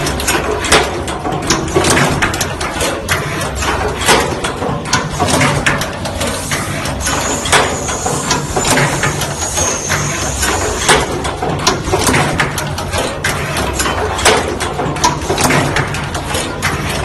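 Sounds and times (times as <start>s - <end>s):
pneumatic clacks and knocks: 0.0s - 17.0s
machine hum: 3.0s - 17.0s.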